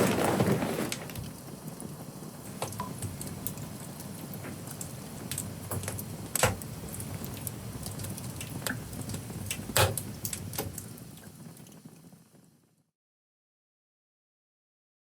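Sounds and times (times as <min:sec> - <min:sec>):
crackles and clicks: 0:00.0 - 0:12.8.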